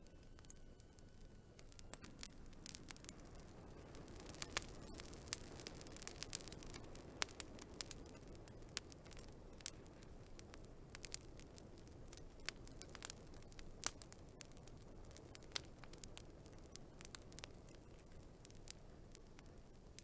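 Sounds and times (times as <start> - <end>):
low background noise: 0.0 - 20.0
wood fire crackling: 0.0 - 20.0.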